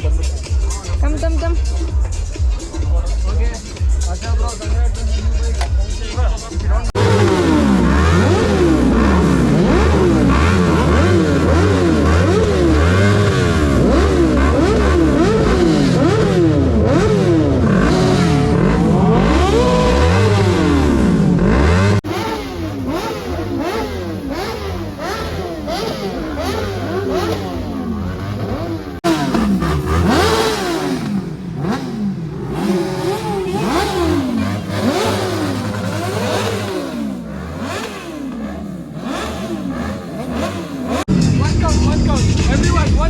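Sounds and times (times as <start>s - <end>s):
motorcycle engines revving: 0.0s - 43.0s.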